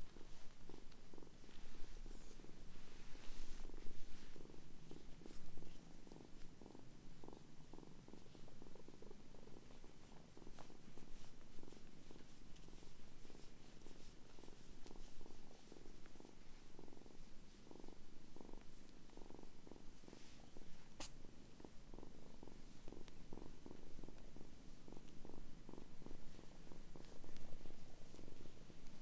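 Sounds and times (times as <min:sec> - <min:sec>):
kitten purring: 0:00.0 - 0:29.0.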